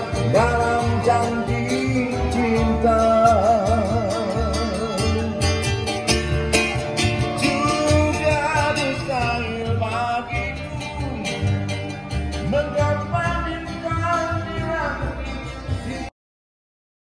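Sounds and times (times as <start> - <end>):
person singing: 0.0 - 5.6, 7.2 - 16.1
acoustic guitar: 0.0 - 16.1
upright bass: 0.0 - 16.1.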